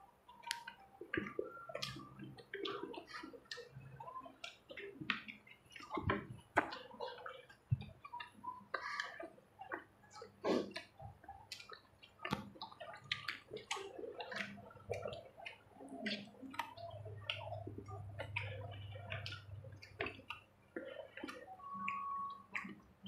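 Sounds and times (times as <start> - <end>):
people chewing food: 0.0 - 23.0.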